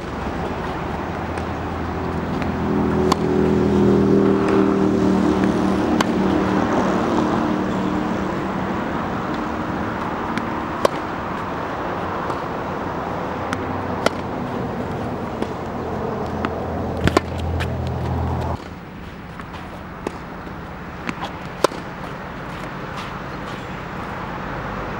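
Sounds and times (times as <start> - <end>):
tennis balls struck by racket: 0.0 - 24.3
car engine hum: 0.0 - 24.9
road traffic noise: 0.0 - 24.9.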